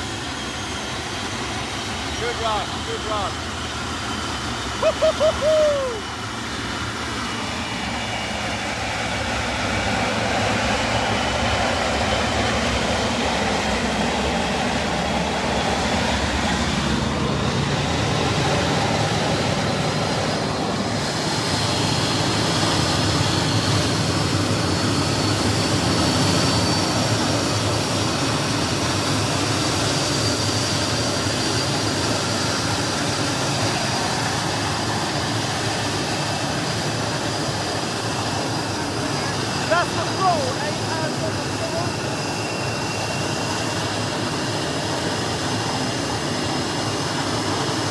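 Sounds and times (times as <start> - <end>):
high engine whine rising: 0.0 - 47.9
jet engine roar: 0.0 - 47.9.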